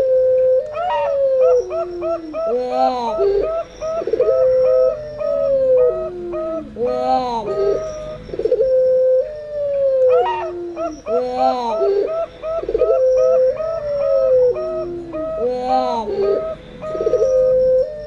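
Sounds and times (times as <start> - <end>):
doves cooing in short high notes: 0.0 - 18.0
doves giving long falling coos: 0.0 - 18.0.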